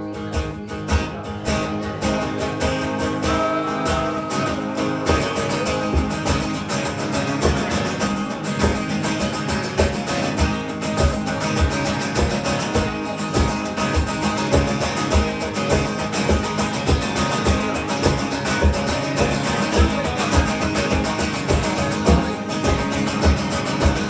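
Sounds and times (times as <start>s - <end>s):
strummed acoustic guitars: 0.0s - 24.0s
steady low beat: 2.6s - 24.0s.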